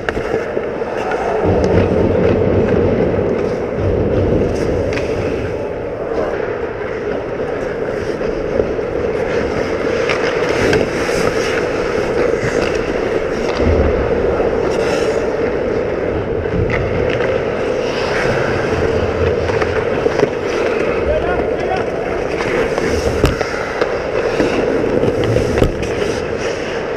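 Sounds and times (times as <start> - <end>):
skates scraping on ice: 0.0 - 26.9.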